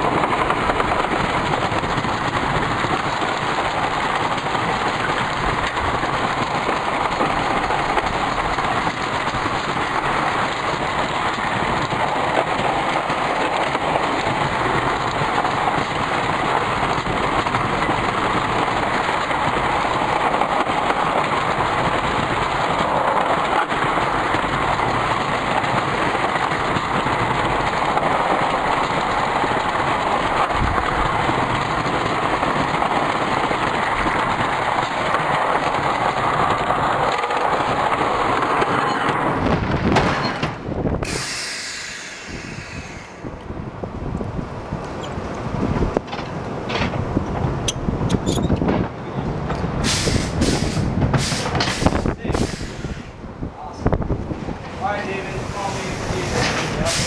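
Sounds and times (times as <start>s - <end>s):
roller coaster wheels rushing: 0.0s - 57.0s.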